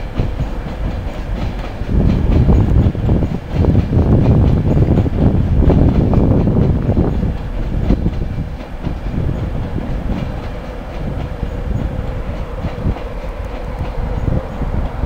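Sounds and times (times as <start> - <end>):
train wheels rumbling on rails: 0.0 - 15.0
wheels clacking over rail joints: 0.0 - 15.0.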